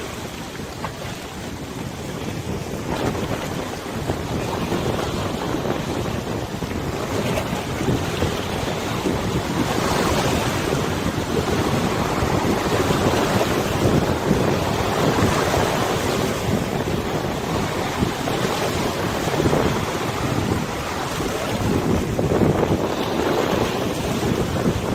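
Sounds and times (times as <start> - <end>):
river water rushing: 0.0 - 24.9
wind on microphone: 0.0 - 24.9.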